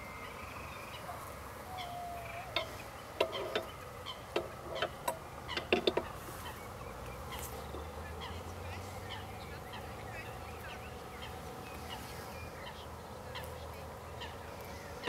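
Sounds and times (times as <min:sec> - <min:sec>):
birds calling sharply: 0:00.0 - 0:15.0
low background hum: 0:00.0 - 0:15.0.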